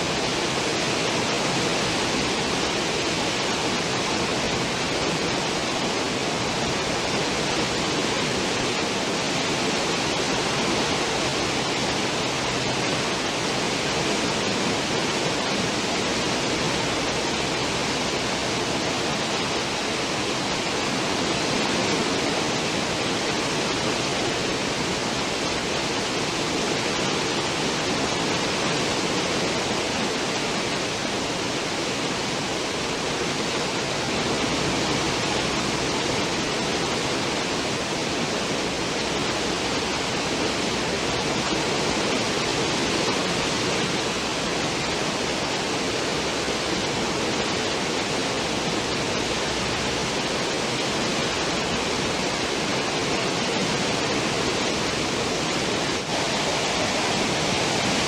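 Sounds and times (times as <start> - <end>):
churning water rushing: 0.0 - 58.0.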